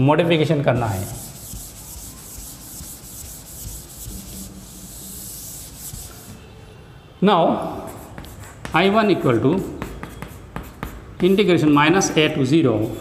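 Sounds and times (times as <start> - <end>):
chalkboard duster rubbing: 0.8 - 6.4, 7.9 - 13.0.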